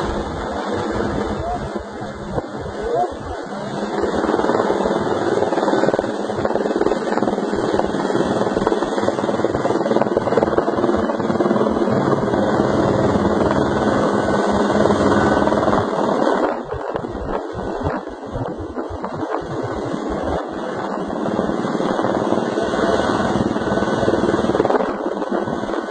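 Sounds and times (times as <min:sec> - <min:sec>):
helicopter rotor and turbine: 0:00.0 - 0:25.9.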